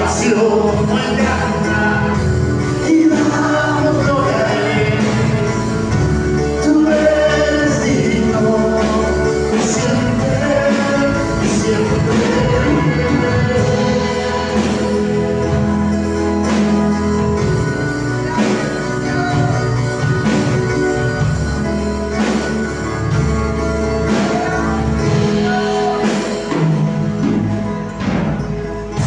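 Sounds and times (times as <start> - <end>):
electronic keyboard sustained chords: 0.0 - 29.0.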